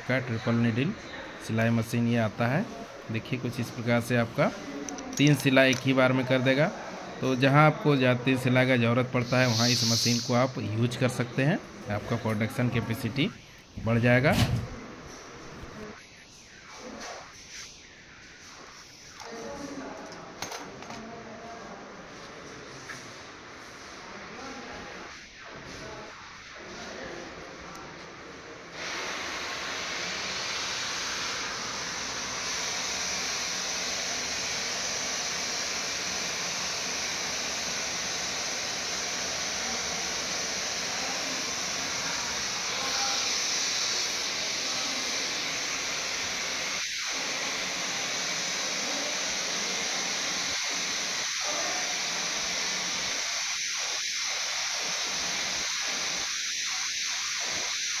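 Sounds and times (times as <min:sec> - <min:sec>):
steady static hiss: 0:00.0 - 0:58.0.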